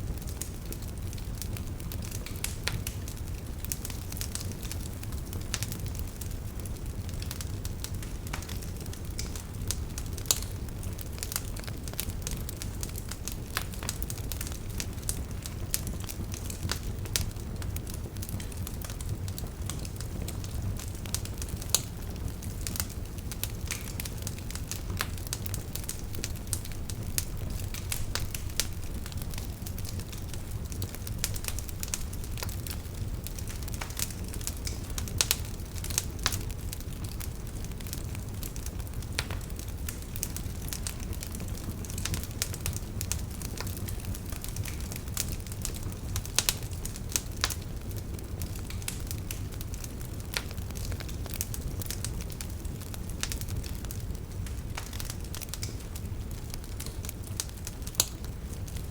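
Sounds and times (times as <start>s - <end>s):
campfire crackles and pops: 0.0s - 58.9s
low rumble of flames: 0.0s - 58.9s.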